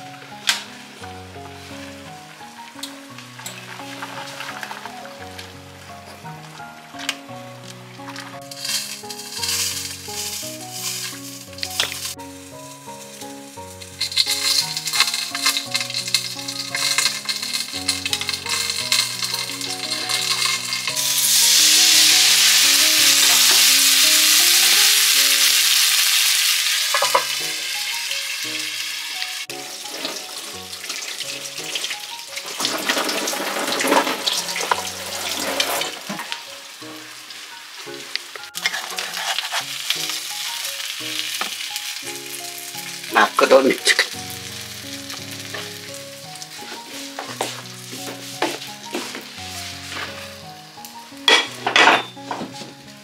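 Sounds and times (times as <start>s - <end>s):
background music simple melody: 0.0s - 53.0s
dumplings sizzling in frying pan: 0.0s - 53.0s.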